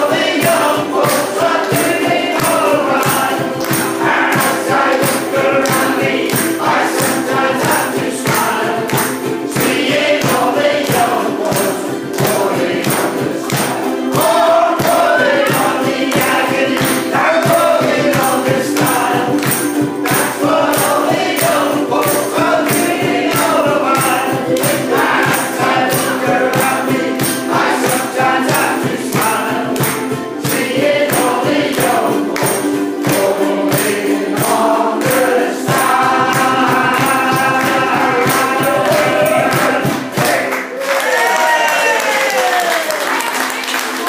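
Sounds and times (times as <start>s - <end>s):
cajon beat: 0.0s - 40.8s
people singing together: 0.0s - 42.1s
ukulele band strumming: 0.0s - 44.0s.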